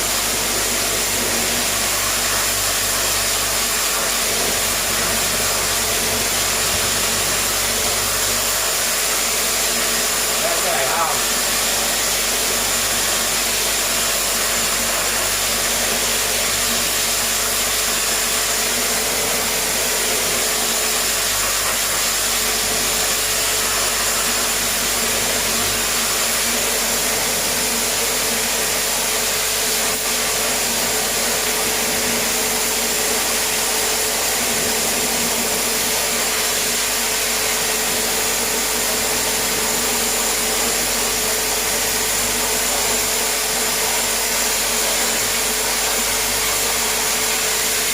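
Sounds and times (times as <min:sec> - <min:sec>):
pressure washer motor whine: 0:00.0 - 0:47.9.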